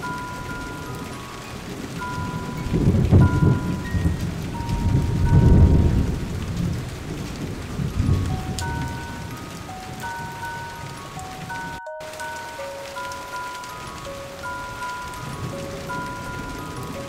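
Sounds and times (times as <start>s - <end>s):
rain: 0.0s - 17.0s
slow melody of soft notes: 0.0s - 17.0s
thunder rumbling: 0.0s - 17.0s.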